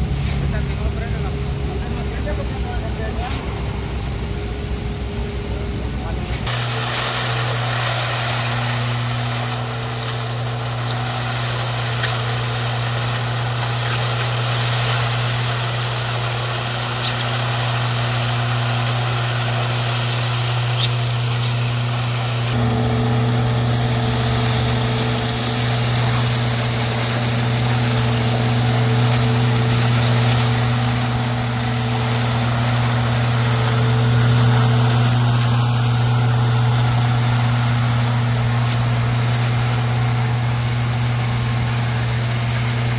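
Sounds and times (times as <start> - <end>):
engine humming: 0.0 - 42.9.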